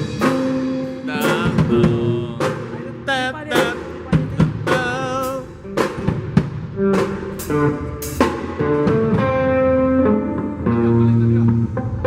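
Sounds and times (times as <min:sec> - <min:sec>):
band playing: 0:00.0 - 0:12.0.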